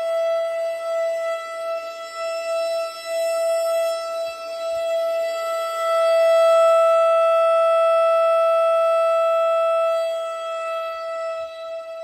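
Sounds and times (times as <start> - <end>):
warning siren steady high tone: 0.0 - 12.0.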